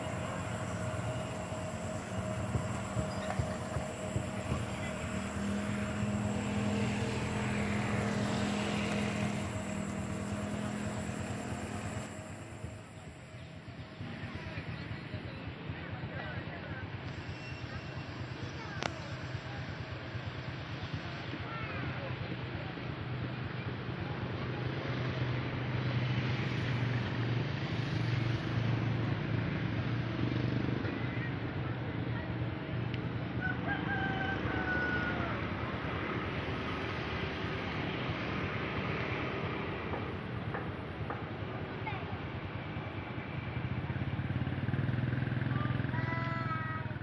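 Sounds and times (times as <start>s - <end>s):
jet engines humming and whining: 0.0s - 45.5s.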